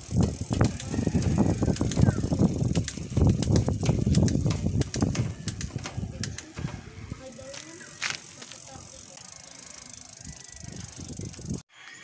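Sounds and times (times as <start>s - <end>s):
rapid mechanical clicking: 0.0s - 11.6s
bike chain running over cassette: 0.0s - 11.7s.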